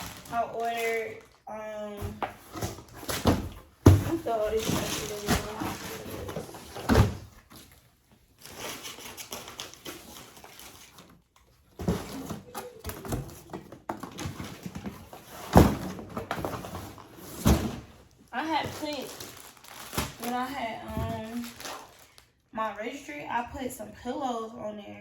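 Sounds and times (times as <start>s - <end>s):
packaging rustling and crinkling: 0.0s - 22.4s.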